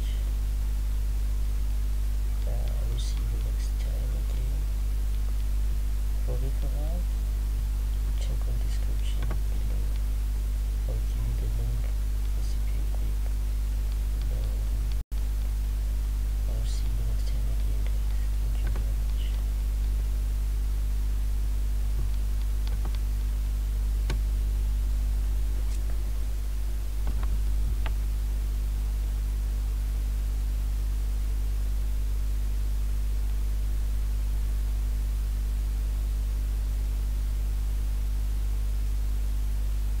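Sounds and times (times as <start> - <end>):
electrical mains hum with hiss: 0.0 - 40.0.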